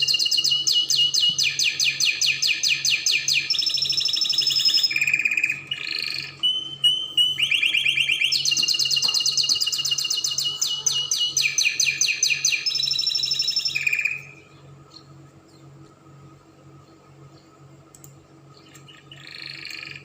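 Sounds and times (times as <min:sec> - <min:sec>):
canary singing rapid trills: 0:00.0 - 0:15.8, 0:18.4 - 0:20.0.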